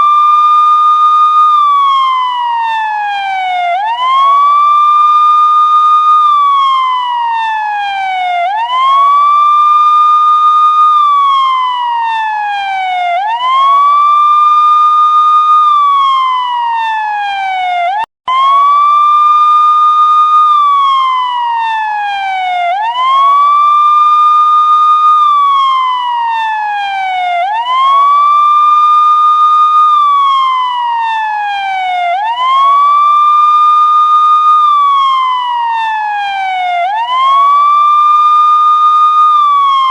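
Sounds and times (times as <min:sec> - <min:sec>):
police car siren wailing: 0:00.0 - 0:39.9.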